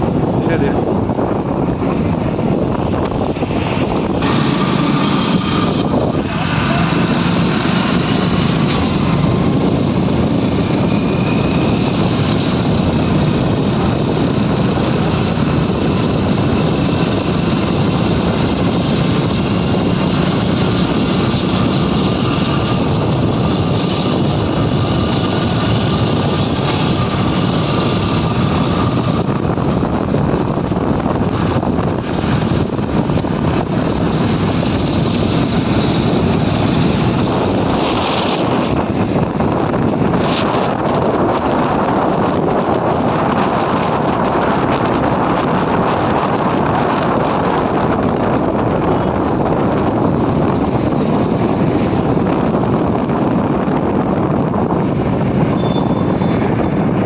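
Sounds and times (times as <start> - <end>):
vehicle engine and road noise: 0.0 - 57.0
wind on microphone: 0.0 - 57.0.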